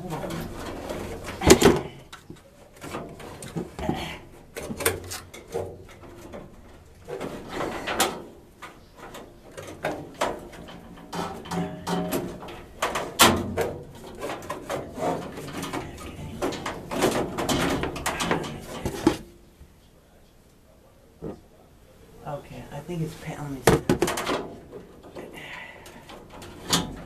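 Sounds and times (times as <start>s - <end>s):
furnace filter scraping sheet metal: 0.0s - 19.3s, 22.8s - 27.0s.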